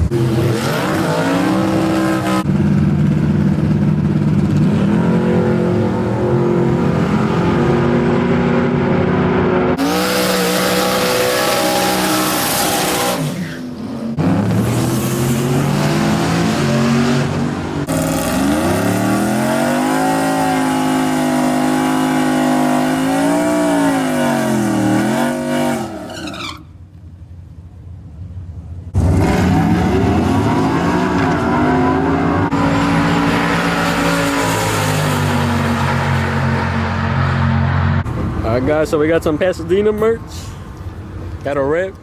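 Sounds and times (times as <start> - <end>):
truck engines revving: 0.0 - 42.0.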